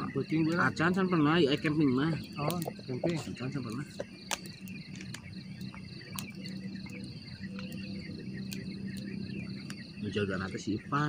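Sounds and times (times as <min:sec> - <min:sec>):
campfire crackling and popping: 0:00.0 - 0:11.0
insects chirping: 0:00.0 - 0:11.0.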